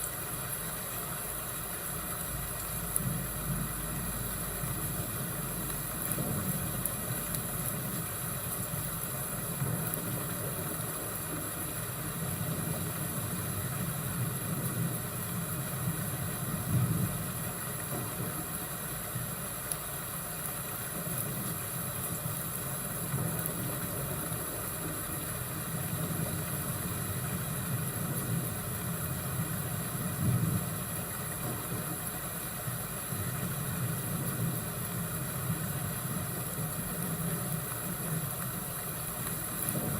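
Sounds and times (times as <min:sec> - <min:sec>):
fireplace and thunderstorm rumble: 0:00.1 - 0:39.9.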